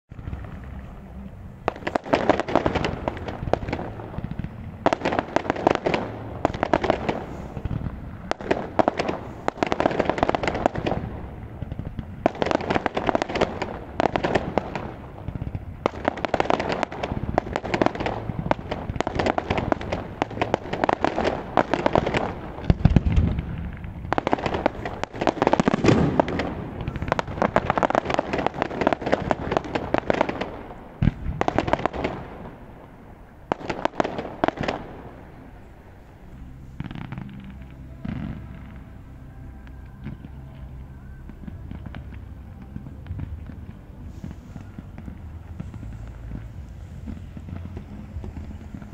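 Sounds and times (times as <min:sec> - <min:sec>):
deep fireworks booms: 0:00.1 - 0:48.9
fireworks cracks and bangs: 0:00.1 - 0:48.9.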